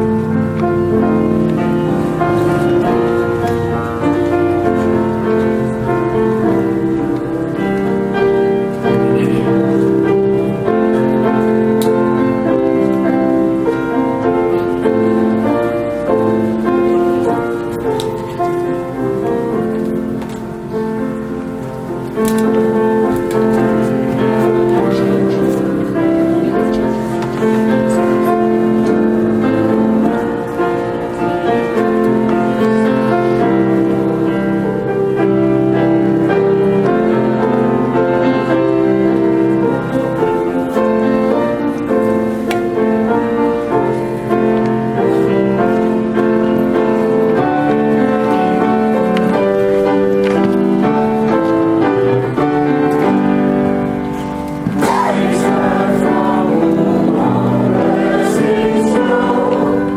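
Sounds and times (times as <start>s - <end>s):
slow keyboard chords: 0.0s - 59.9s.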